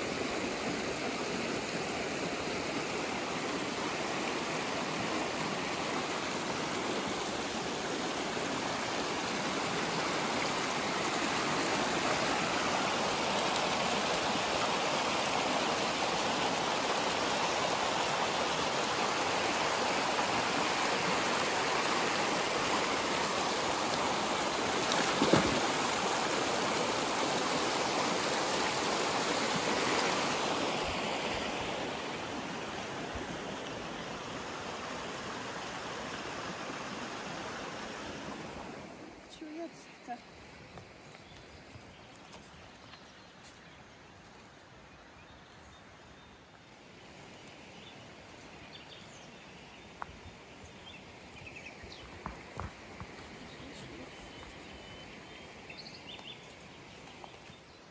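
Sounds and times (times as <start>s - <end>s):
stream rushing over stones: 0.0s - 44.9s, 46.0s - 57.9s.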